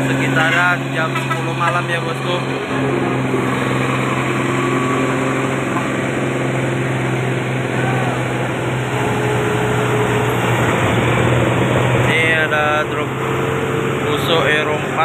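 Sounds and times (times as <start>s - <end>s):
heavy diesel trucks driving past: 0.0s - 15.0s
tyre and road noise: 0.0s - 15.0s.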